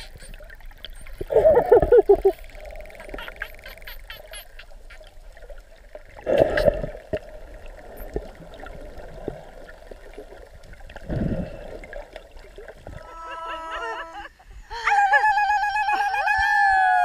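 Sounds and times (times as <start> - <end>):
muffled underwater water noise: 0.0 - 17.0.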